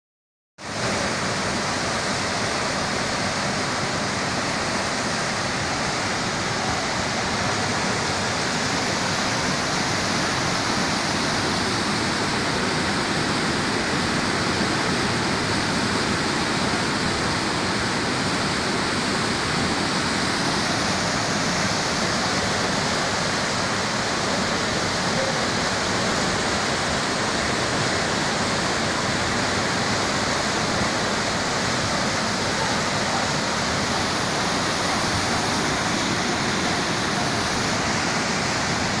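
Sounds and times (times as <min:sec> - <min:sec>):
floodwater rushing: 0:00.6 - 0:39.0.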